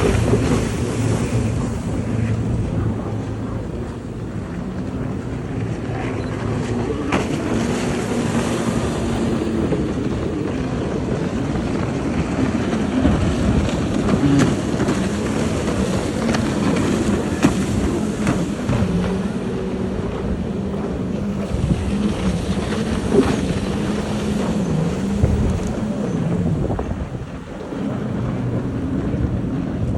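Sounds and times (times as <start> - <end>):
jet ski engines: 0.0 - 29.9
wind noise on microphone: 0.0 - 29.9.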